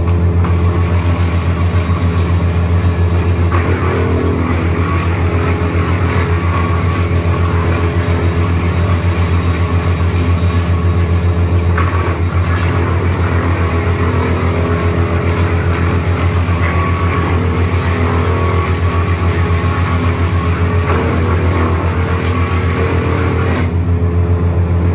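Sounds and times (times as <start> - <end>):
wood chipper engine running: 0.0 - 24.9.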